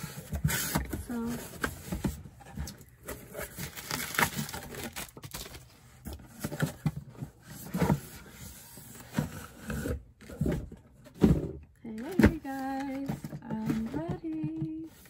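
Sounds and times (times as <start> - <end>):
cardboard scraping and rustling: 0.0 - 15.0.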